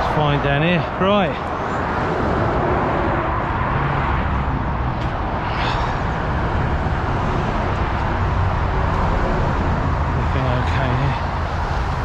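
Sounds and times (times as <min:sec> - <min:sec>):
motorway traffic noise: 0:00.0 - 0:12.0.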